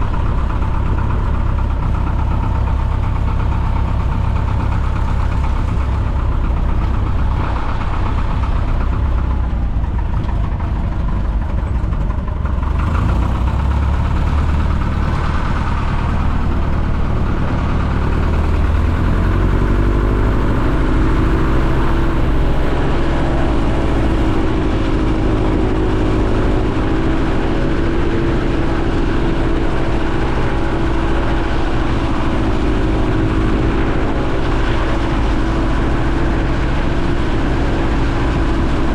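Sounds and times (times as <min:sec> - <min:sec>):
light aircraft engine running: 0:00.0 - 0:38.9.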